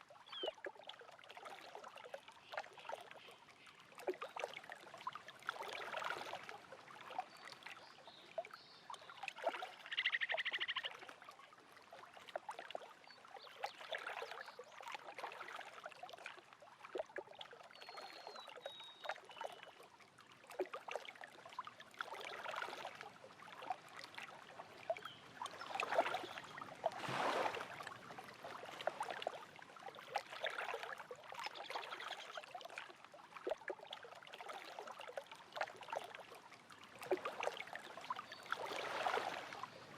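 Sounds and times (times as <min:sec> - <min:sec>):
lake waves lapping at shore: 0:00.0 - 0:39.9.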